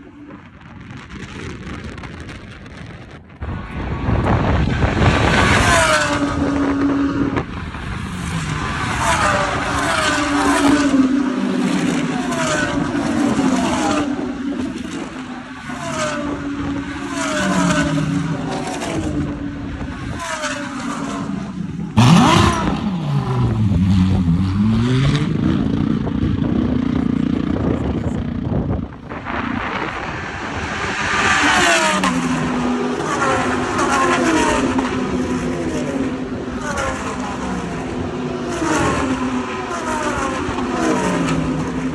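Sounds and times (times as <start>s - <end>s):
race cars passing at speed: 3.4s - 41.9s.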